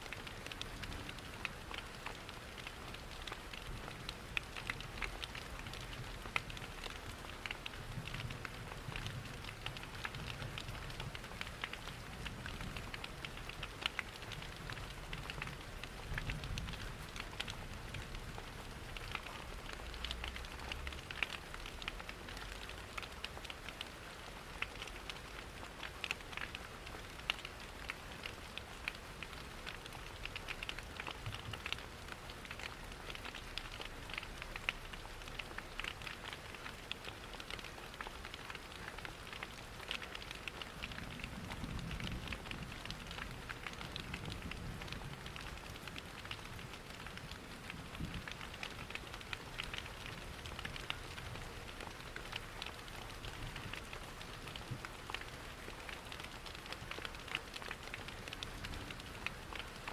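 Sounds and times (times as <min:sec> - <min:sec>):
steady rain pattering: 0:00.0 - 0:59.9
wood fire crackling: 0:00.4 - 0:03.7, 0:04.4 - 0:07.2, 0:08.0 - 0:59.9.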